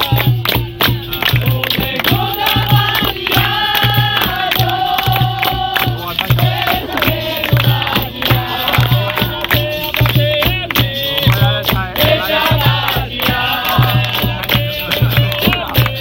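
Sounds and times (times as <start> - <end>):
group singing in chorus: 0.0 - 16.0
regular drum beat: 0.0 - 16.0
sharp percussion: 0.0 - 16.0.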